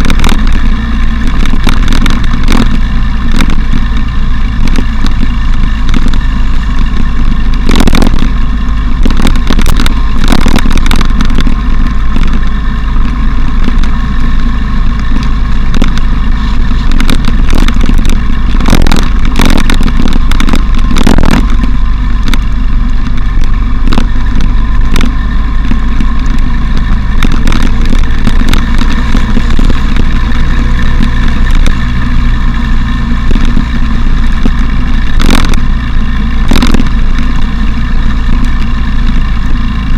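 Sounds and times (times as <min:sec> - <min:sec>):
motorcycle engine running: 0:00.0 - 0:39.9
wind rumble: 0:00.0 - 0:39.9.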